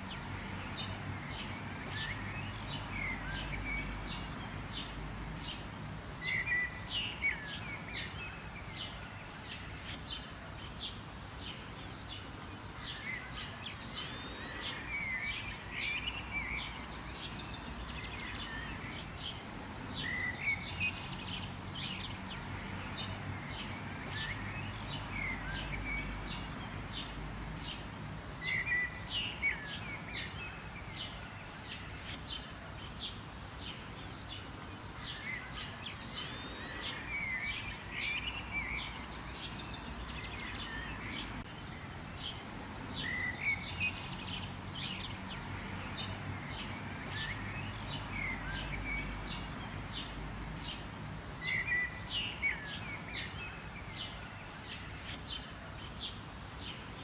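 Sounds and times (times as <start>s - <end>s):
wild birds chirping and singing: 0.0s - 57.0s.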